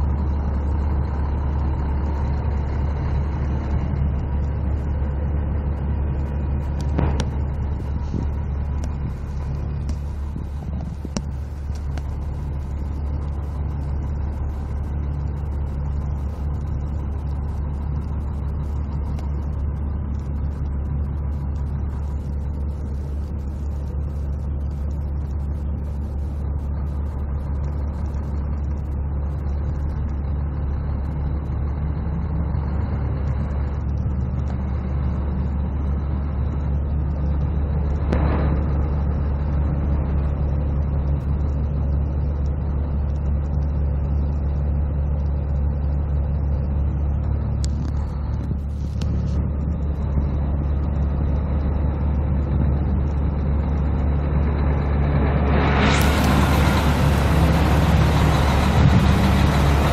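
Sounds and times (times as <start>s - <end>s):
diesel truck engine idling: 0.0s - 59.9s
rush of noise: 0.0s - 59.9s.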